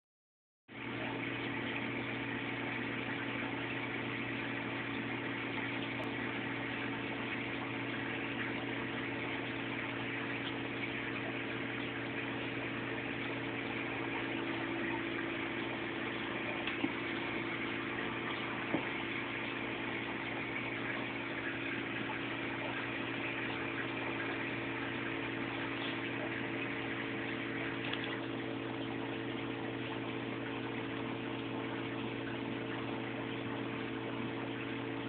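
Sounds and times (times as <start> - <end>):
aquarium pumps humming: 0.7 - 35.0
circulating water hiss: 0.7 - 35.0.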